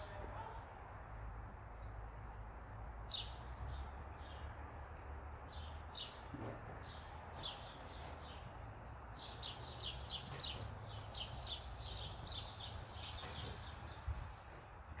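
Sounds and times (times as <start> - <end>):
small birds chirping: 1.7 - 14.8.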